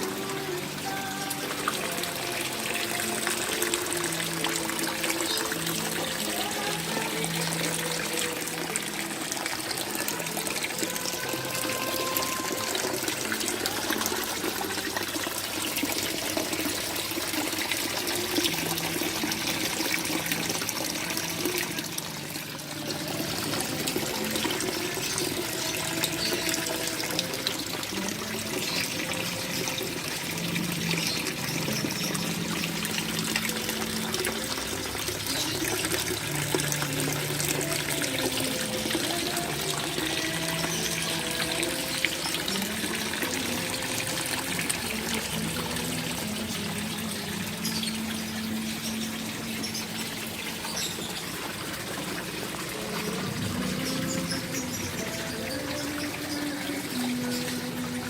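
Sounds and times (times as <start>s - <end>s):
water running and trickling: 0.0s - 58.0s.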